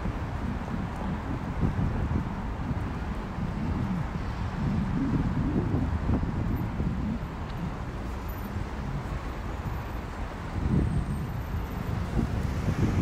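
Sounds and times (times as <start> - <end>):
passing traffic rumble: 0.0 - 13.0.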